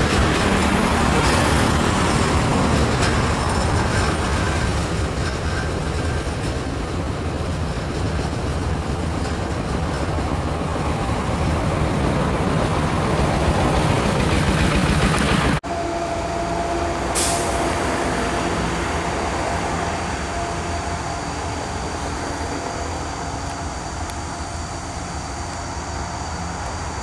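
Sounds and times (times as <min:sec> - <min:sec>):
freight train wheels rumbling on rails: 0:00.0 - 0:27.0.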